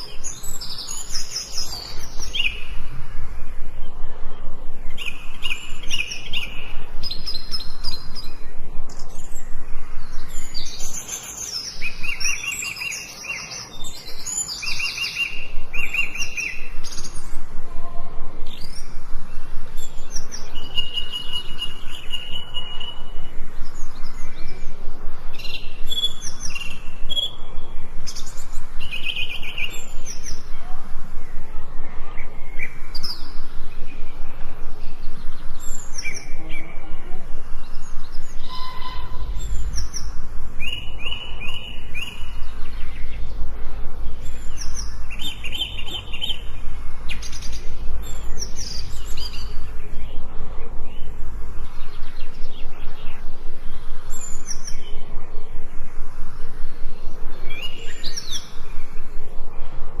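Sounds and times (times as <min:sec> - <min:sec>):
fast steady pulsing: 0:00.0 - 0:11.0, 0:15.4 - 1:00.0
birds chirping and singing: 0:00.0 - 1:00.0
low rumble: 0:01.6 - 0:10.9, 0:15.4 - 1:00.0.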